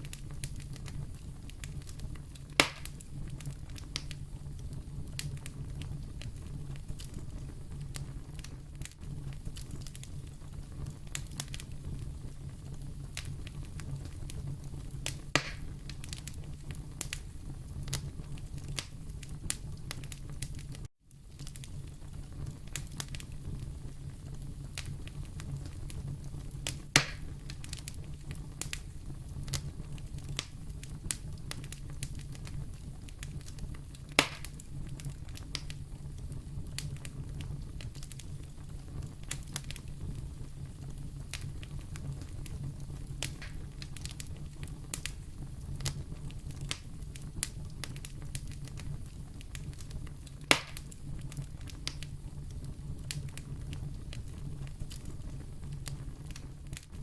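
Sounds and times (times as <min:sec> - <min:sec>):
fire flames rumbling: 0:00.0 - 0:57.0
wood fire crackling and popping: 0:00.0 - 0:57.0.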